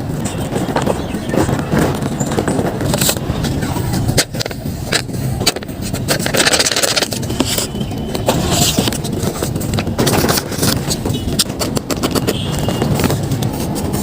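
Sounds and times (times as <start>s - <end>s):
steady low rumble: 0.0s - 14.0s
paper crinkling and scraping: 0.2s - 14.0s.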